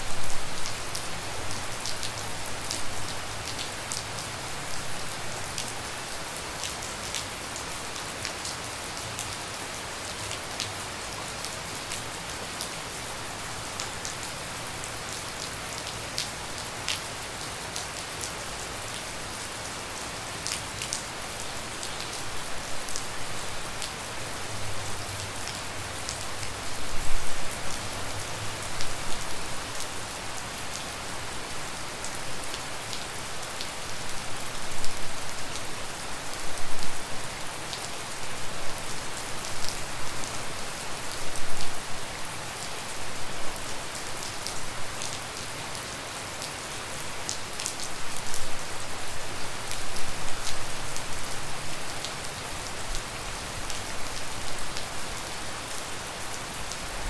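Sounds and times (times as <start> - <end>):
rain drops pattering: 0.0 - 57.0.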